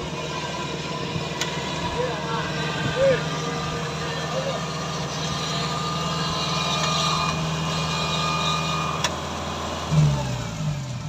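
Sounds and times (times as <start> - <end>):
farm machine engine running: 0.0 - 11.0.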